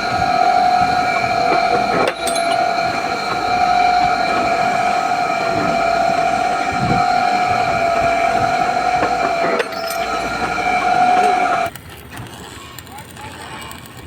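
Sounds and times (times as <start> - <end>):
high-pitched mechanical whine: 0.0 - 11.7
rumbling noise: 0.0 - 11.7.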